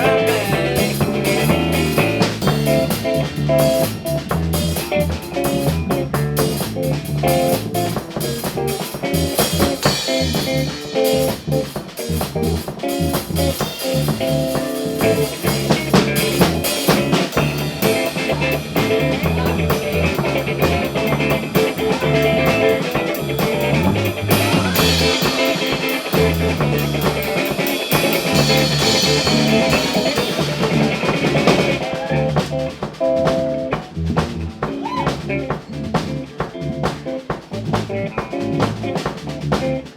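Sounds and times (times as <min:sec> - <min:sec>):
bass: 0:00.0 - 0:39.9
drum kit with snare and cymbals: 0:00.0 - 0:39.9
guitar: 0:00.0 - 0:39.9.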